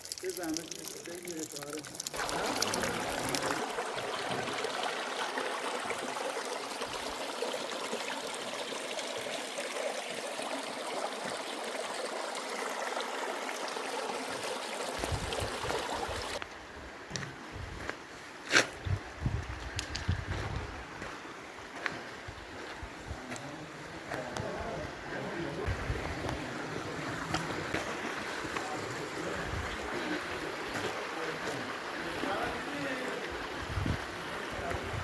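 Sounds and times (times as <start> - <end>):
stream water rushing: 0.0 - 17.1, 20.8 - 35.0.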